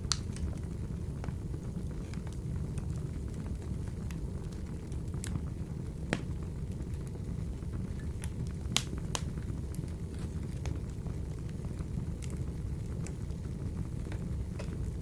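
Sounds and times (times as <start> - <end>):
fire crackling in stove: 0.0 - 15.0.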